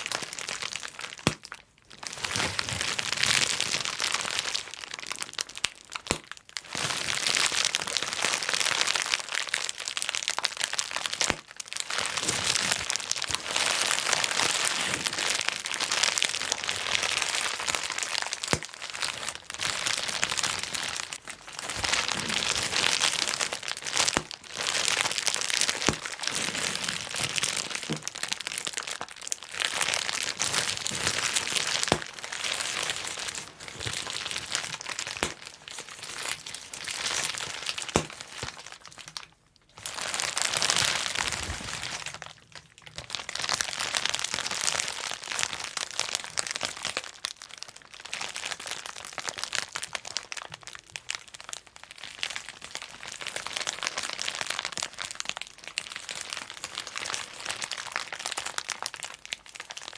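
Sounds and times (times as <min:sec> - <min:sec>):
bubble wrap crinkling: 0:00.0 - 0:59.9
bubble wrap popping: 0:00.0 - 0:59.9.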